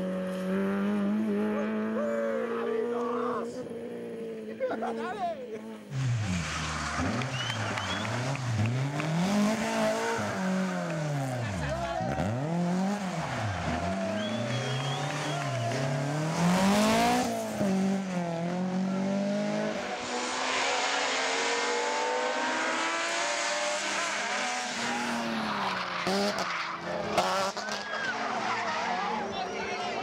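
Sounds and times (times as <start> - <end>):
rally car engines revving: 0.0 - 30.0.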